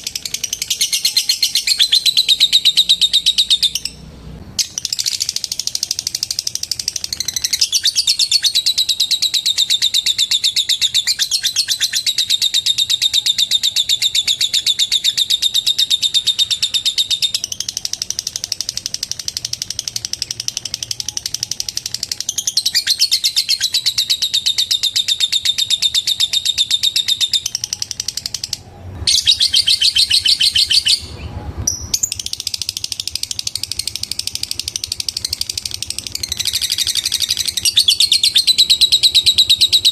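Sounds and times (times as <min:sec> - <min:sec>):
lovebird chattering trill: 0:00.0 - 0:04.0, 0:04.6 - 0:39.9.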